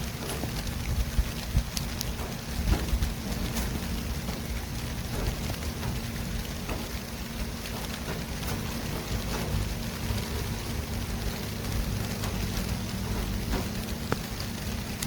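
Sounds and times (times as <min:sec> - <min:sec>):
constant hiss: 0:00.0 - 0:15.0
low traffic rumble: 0:00.0 - 0:15.0.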